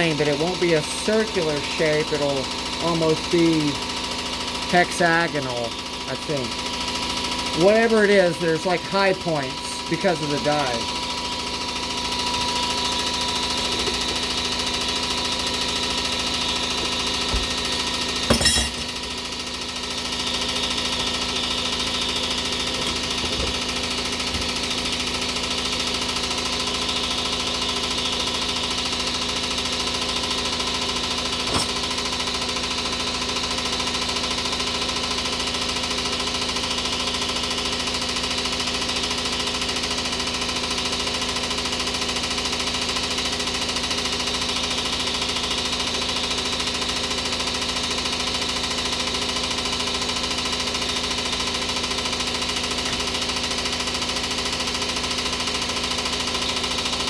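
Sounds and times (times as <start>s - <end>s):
air compressor running: 0.0s - 57.0s.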